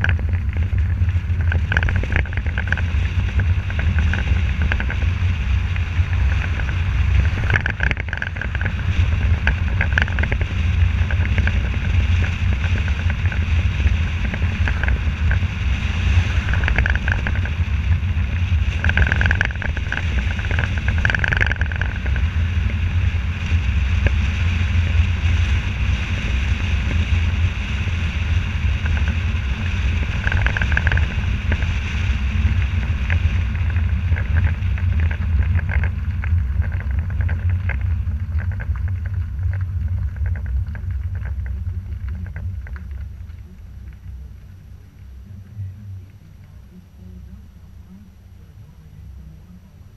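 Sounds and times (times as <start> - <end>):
car road noise: 0.0 - 49.9
wind rumble: 0.0 - 49.9.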